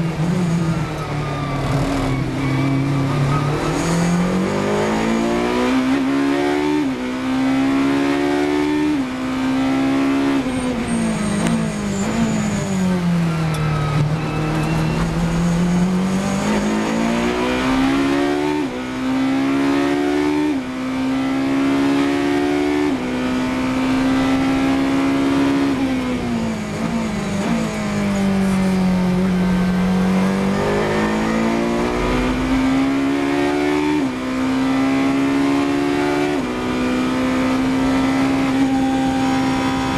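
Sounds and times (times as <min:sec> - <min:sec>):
racing car engine revving: 0:01.6 - 0:12.7, 0:14.0 - 0:39.9.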